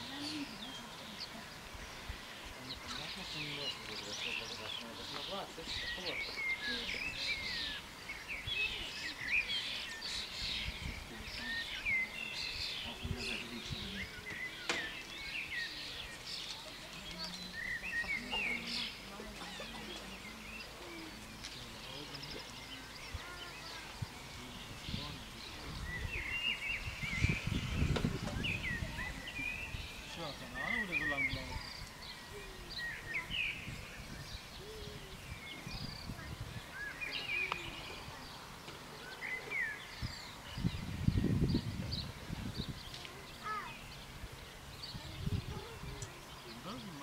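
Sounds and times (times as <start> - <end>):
outdoor background noise: 0.0 - 47.0
songbirds chirping and whistling: 0.0 - 47.0.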